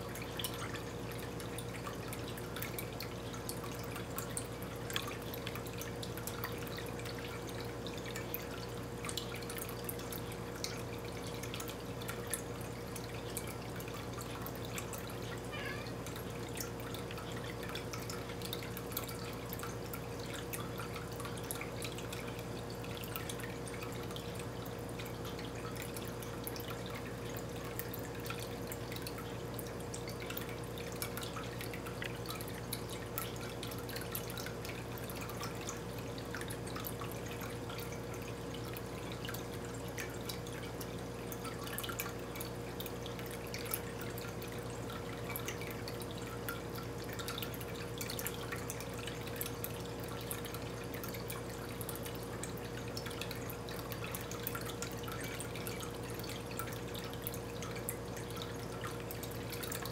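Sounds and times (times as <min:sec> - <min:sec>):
water dripping: 0:00.0 - 0:59.9.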